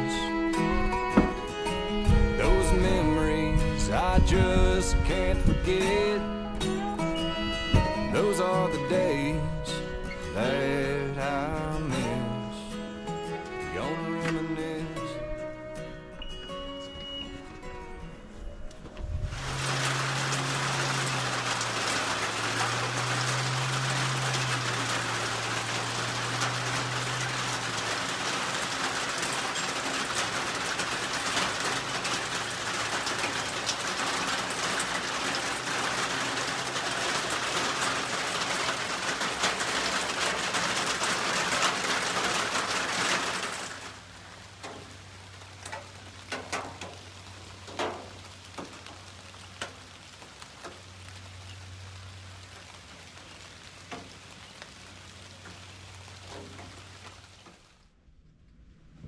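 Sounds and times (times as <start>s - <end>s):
heavy rain pattering: 0.0s - 59.0s
vehicle engine hum: 0.0s - 59.0s.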